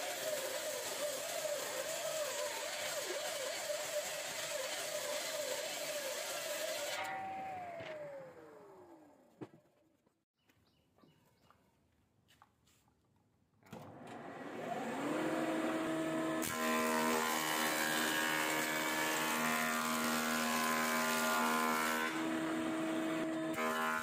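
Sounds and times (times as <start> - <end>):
planer motor whine: 0.0 - 9.3, 13.7 - 24.0
planer cutting wooden board: 0.0 - 9.6, 13.7 - 24.0.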